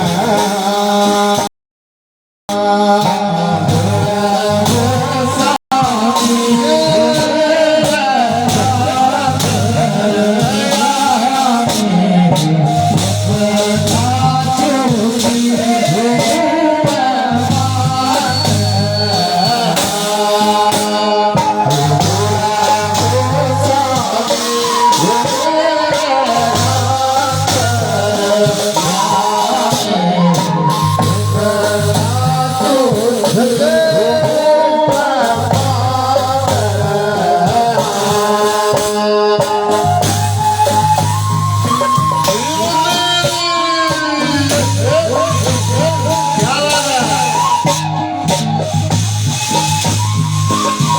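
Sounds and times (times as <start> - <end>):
person singing: 2.5 - 50.9.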